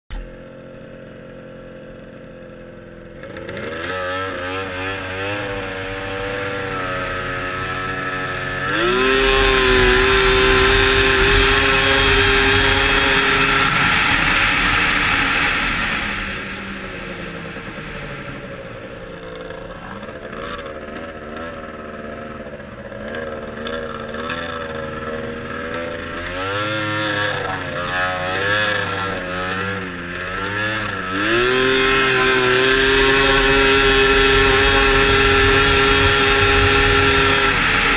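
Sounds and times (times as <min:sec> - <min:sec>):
snowmobile engine revving: 0:02.0 - 0:37.9.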